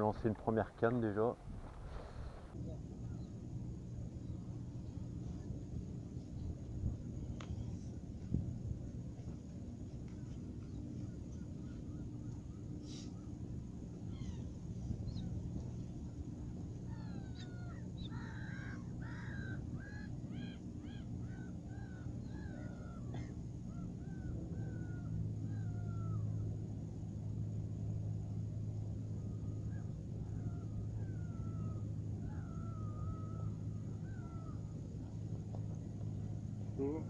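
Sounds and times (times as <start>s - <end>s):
gulls calling: 0.0s - 37.0s
steady low hum: 0.0s - 37.0s.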